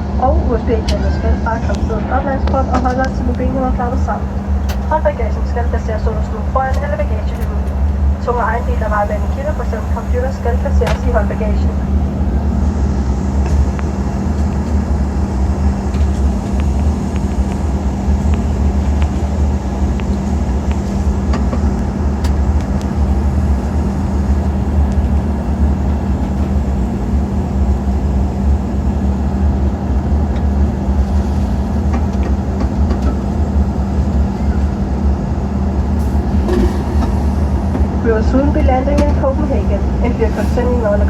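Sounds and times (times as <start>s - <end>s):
jet engines droning: 0.0s - 41.0s
low hum: 0.0s - 41.0s.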